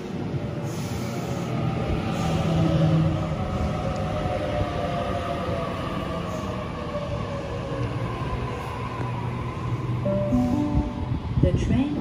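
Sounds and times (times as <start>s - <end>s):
wheels rumbling on rail: 0.0s - 12.0s.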